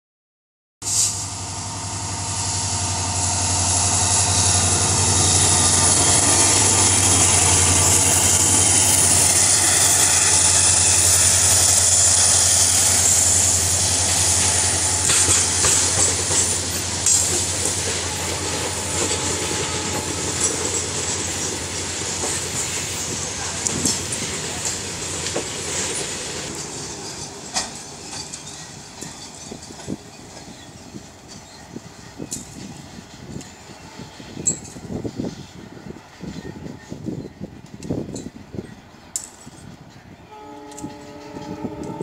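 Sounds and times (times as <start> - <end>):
diesel locomotive engine hum: 0.9 - 42.0.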